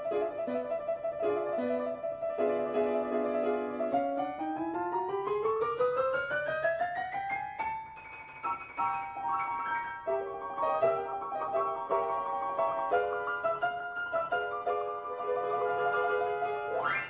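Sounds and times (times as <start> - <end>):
piano playing chords and runs: 0.0 - 17.0.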